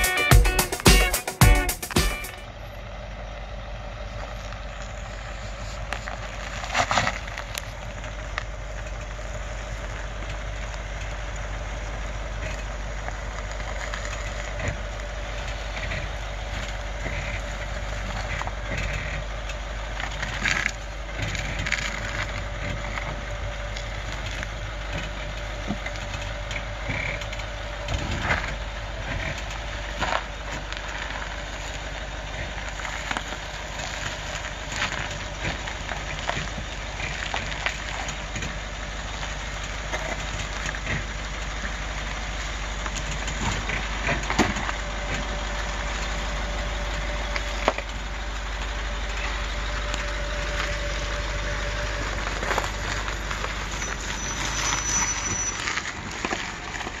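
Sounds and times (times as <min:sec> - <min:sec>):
diesel engine running low: 0:00.0 - 0:57.0
wheels knocking off ledges: 0:04.2 - 0:57.0
tyres crunching over rock: 0:04.5 - 0:26.3, 0:27.9 - 0:57.0.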